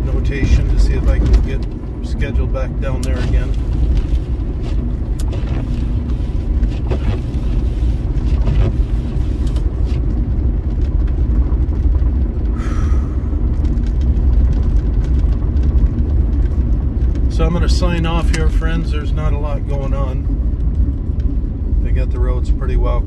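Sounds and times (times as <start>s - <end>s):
car driving rumble inside cabin: 0.0s - 23.0s.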